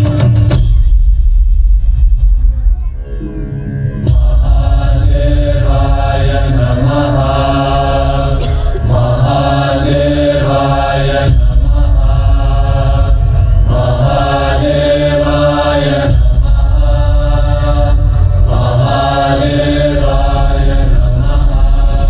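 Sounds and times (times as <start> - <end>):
heavy bass layer: 0.0 - 22.0
chanting voices: 3.9 - 22.0.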